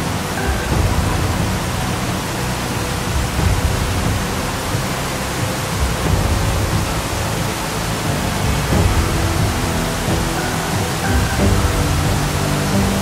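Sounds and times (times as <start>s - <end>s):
background music: 0.0s - 13.0s
steady rushing noise: 0.0s - 13.0s.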